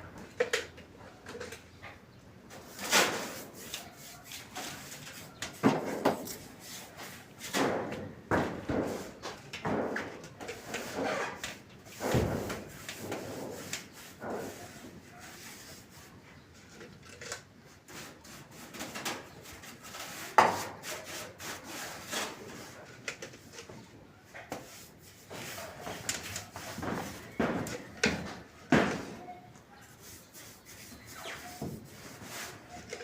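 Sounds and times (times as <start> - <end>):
knocking and scraping: 0.3 - 33.0.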